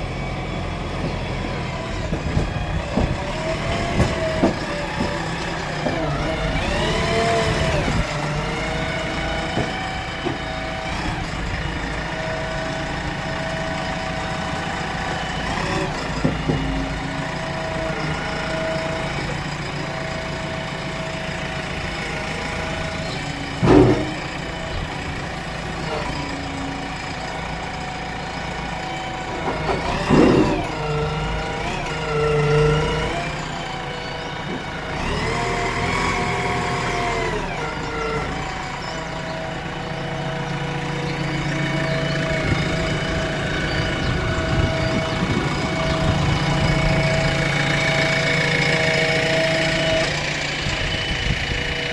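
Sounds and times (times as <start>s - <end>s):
heavy machine engine idling: 0.0s - 51.9s.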